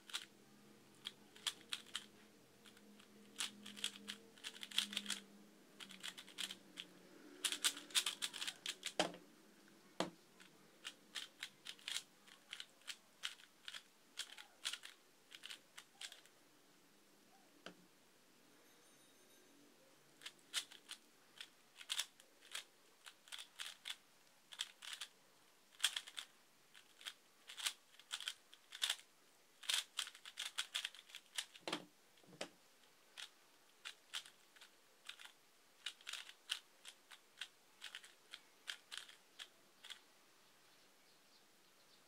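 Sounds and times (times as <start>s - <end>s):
puzzle cube plastic clicks: 0.0s - 9.2s, 10.0s - 16.3s, 20.2s - 25.1s, 25.7s - 32.5s, 33.1s - 40.0s.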